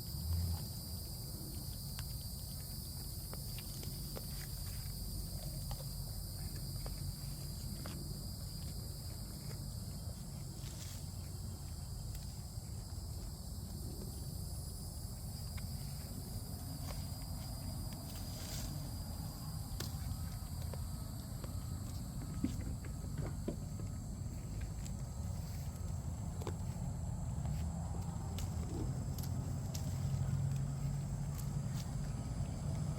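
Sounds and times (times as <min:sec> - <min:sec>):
goats chewing and tearing leaves: 0:00.0 - 0:32.9
high insect chorus: 0:00.0 - 0:32.9.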